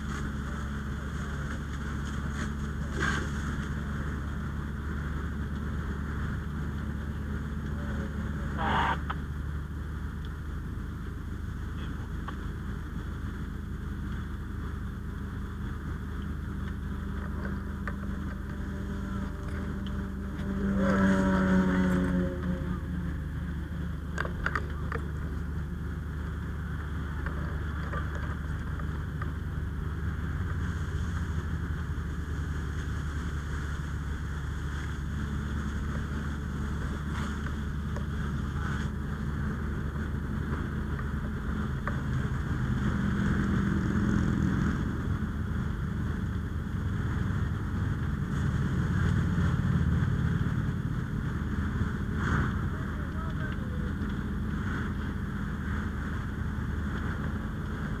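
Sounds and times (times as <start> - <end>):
fire engine pump drone: 0.0 - 58.0.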